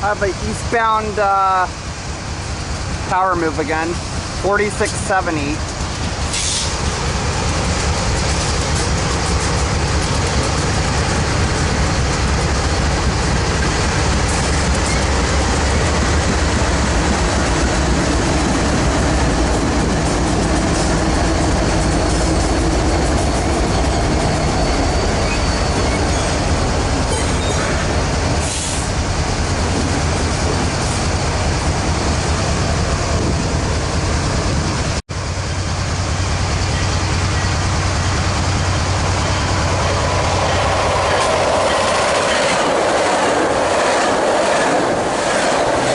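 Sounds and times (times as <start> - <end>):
diesel locomotive engine rumble: 0.0 - 45.9.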